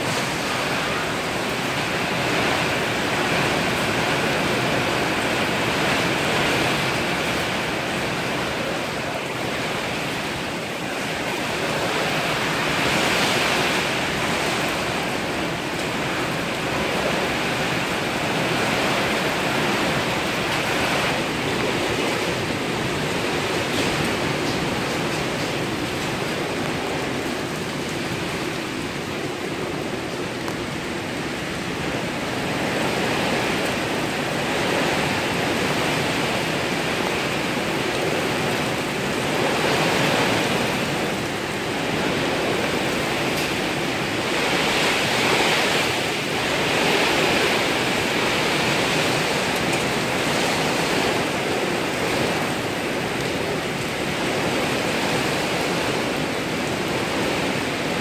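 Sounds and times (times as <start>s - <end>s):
heavy rain on road and trees: 0.0s - 58.0s.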